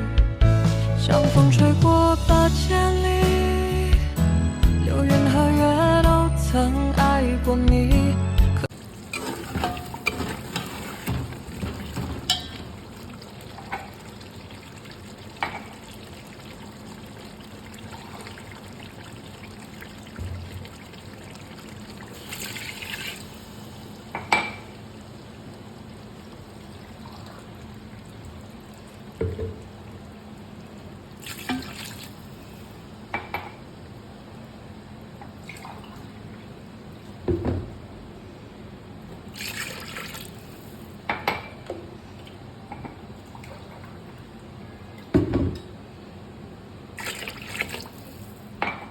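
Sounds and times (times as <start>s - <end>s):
low background noise: 8.6s - 48.9s.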